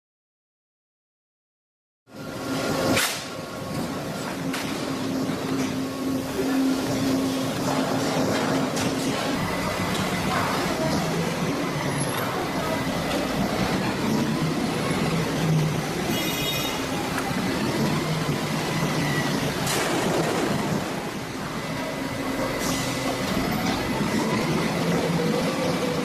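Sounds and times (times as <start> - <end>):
machine mechanical hum: 2.1 - 26.0.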